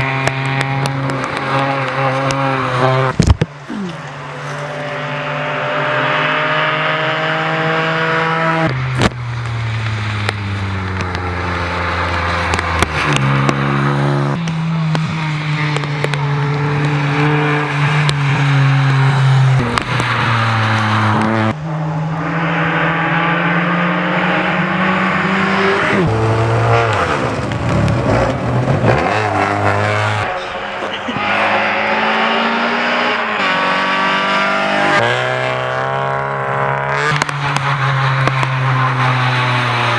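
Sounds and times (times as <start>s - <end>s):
rally car engines at full throttle: 0.0s - 39.9s.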